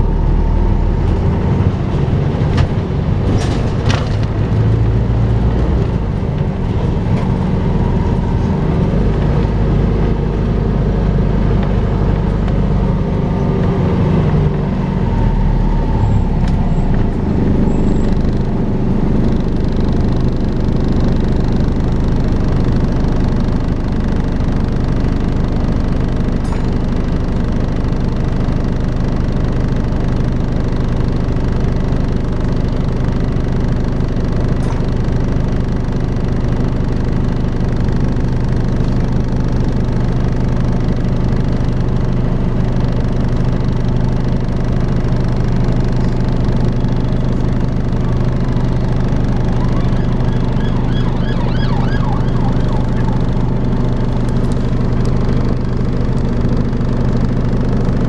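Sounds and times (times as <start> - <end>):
bus engine droning: 0.0 - 58.0.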